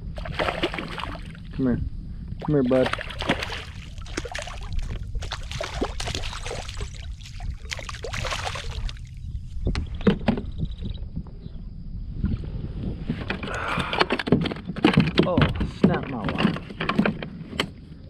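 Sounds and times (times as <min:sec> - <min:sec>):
wind rumble on microphone: 0:00.0 - 0:18.0
knocks and rattles on kayak: 0:00.1 - 0:01.5, 0:02.4 - 0:11.5, 0:13.0 - 0:17.9.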